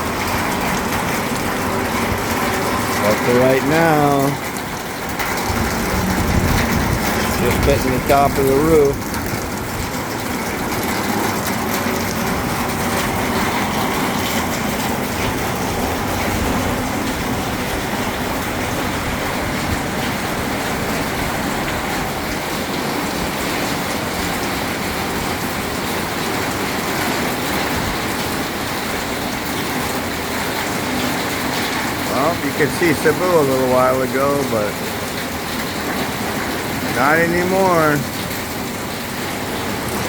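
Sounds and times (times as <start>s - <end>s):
heavy rain on a roof: 0.0s - 40.0s.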